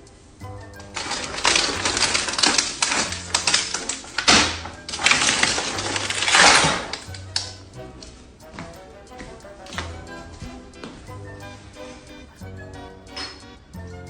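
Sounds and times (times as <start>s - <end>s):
background music with bass line: 0.0s - 14.0s
rapid clattering and scratching: 0.0s - 14.0s.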